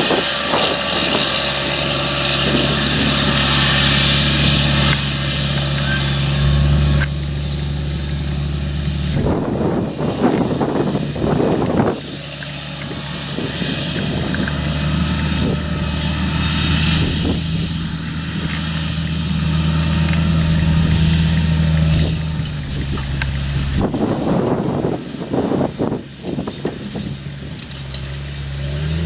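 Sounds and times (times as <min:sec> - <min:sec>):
low mechanical hum: 0:00.0 - 0:28.8.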